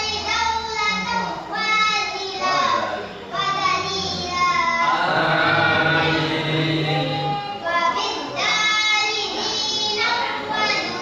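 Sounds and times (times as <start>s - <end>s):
boy chanting into a microphone: 0.0s - 11.0s.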